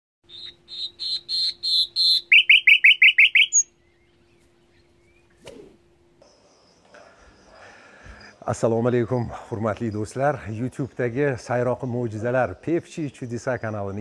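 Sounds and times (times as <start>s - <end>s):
faint steady hum: 0.2s - 14.0s
songbird singing: 0.2s - 14.0s.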